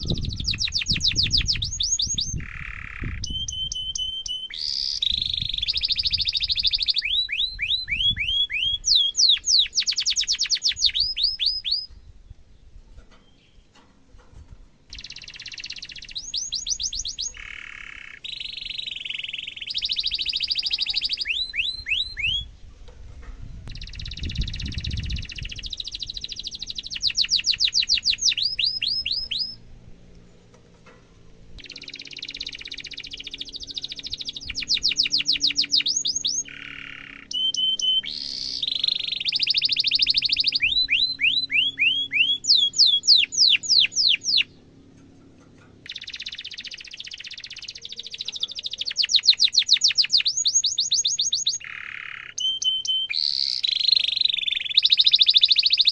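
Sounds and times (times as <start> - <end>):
canary singing: 0.0 - 12.2, 14.9 - 30.9, 31.5 - 55.9.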